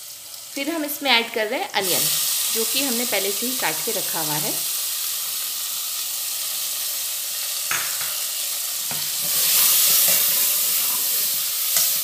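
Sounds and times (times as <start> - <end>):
onions sizzling in hot fat: 0.0 - 12.0.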